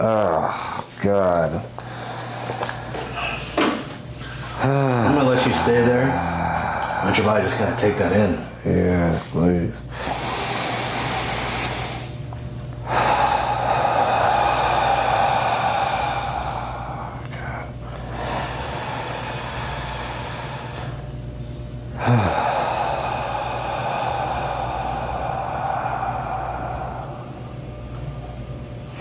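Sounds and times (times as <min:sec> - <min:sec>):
man breathing deeply: 0:01.8 - 0:08.6, 0:09.8 - 0:29.0.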